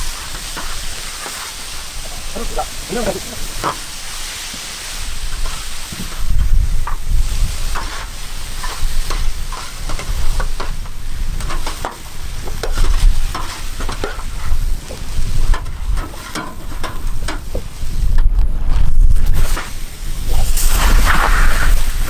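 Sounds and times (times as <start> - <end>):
spatula scraping through rice: 0.0 - 18.1, 19.3 - 22.0
paella sizzling in a pan: 0.0 - 18.2, 18.8 - 22.0.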